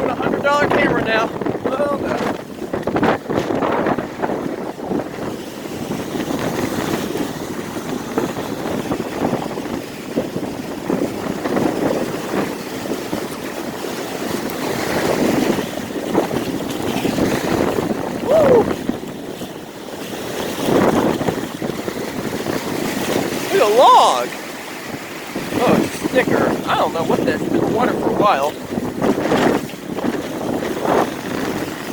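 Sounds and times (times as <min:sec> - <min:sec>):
surf breaking: 0:00.0 - 0:31.9
wind buffeting microphone: 0:00.0 - 0:31.9.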